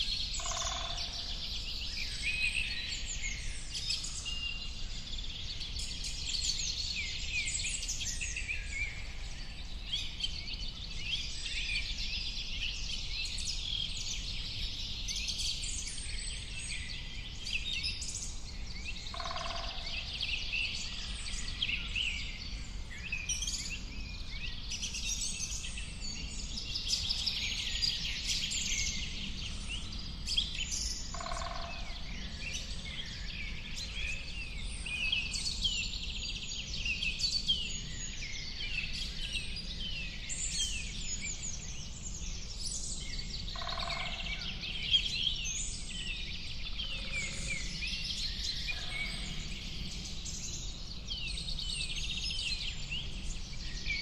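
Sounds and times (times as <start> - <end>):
birds chirping chorus: 0.0 - 54.0.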